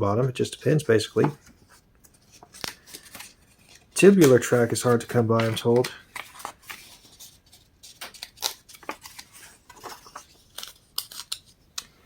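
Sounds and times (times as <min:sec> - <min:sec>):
paper pages rustling: 0:00.8 - 0:12.0.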